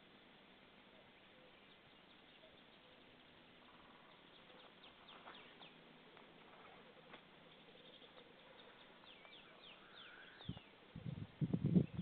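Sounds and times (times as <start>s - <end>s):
distant songbirds: 0.0s - 12.0s
steady hiss: 0.0s - 12.0s.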